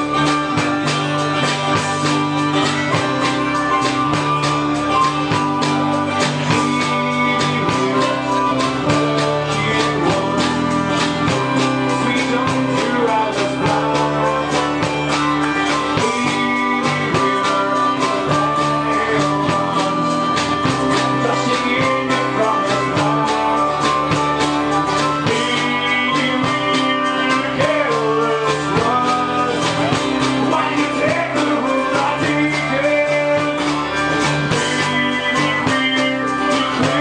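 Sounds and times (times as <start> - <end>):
punk rock band playing live: 0.0 - 37.0
steady drumbeat: 0.0 - 37.0.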